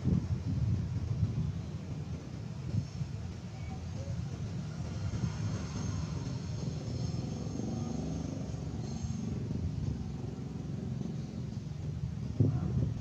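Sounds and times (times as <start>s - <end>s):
distant vehicle engine humming: 0.0s - 13.0s
wind rumbling on microphone: 0.0s - 13.0s.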